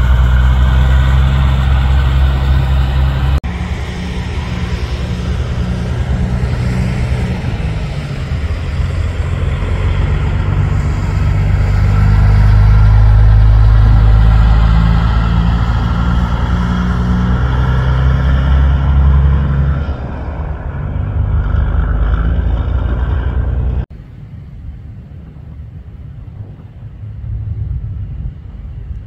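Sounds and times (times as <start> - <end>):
diesel truck engine driving past: 0.0 - 23.9.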